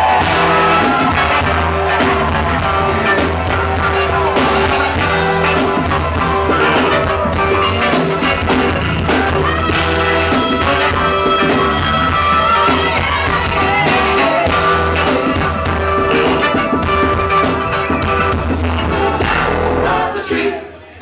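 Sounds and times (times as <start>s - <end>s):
live funk band playing: 0.0s - 20.9s.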